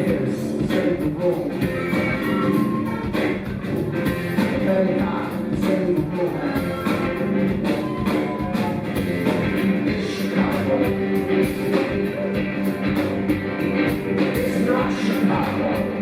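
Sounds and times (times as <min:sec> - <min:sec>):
bass and guitar tones: 0:00.0 - 0:16.0
drums steady beat: 0:00.0 - 0:16.0.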